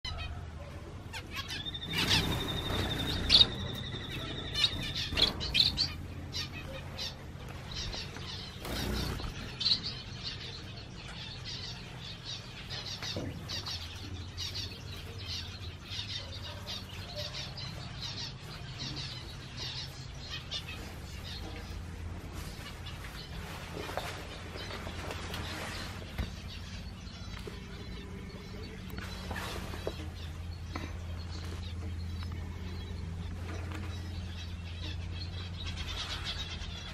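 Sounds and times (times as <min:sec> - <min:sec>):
finches chirping: 0:01.0 - 0:36.9.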